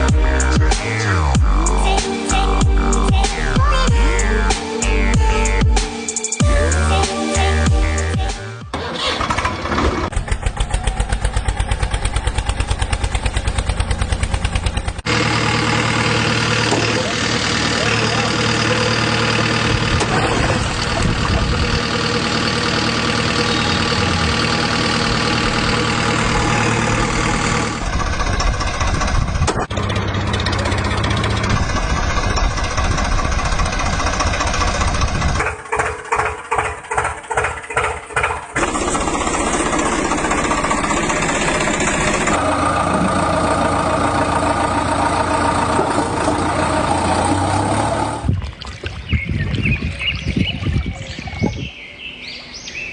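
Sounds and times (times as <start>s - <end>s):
tractor engines idling: 0.0s - 5.8s, 7.8s - 48.3s.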